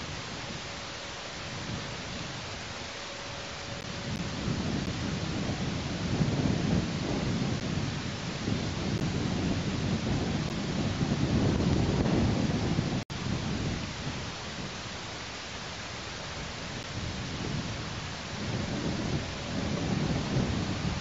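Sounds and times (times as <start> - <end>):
steady hiss: 0.0 - 21.0
wind buffeting microphone: 0.0 - 21.0.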